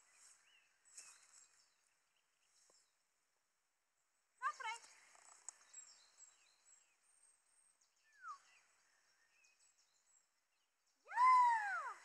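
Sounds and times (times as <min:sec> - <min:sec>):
distant bird chirps: 0:00.0 - 0:03.3, 0:04.0 - 0:12.0.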